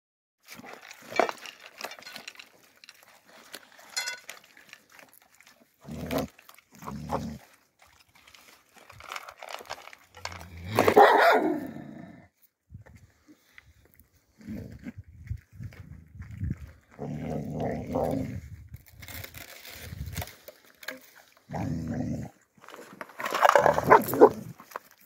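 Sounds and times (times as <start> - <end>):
puppies crunching dry food: 0.4 - 11.7, 13.1 - 25.0.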